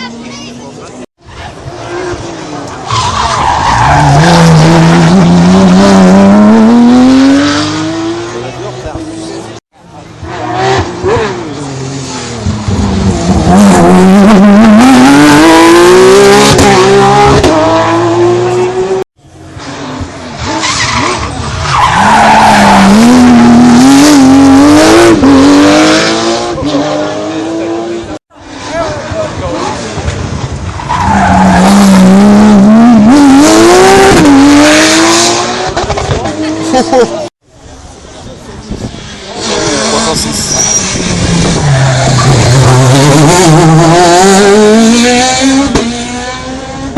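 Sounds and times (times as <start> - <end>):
rally car engine revving: 1.4 - 37.3, 38.6 - 46.9.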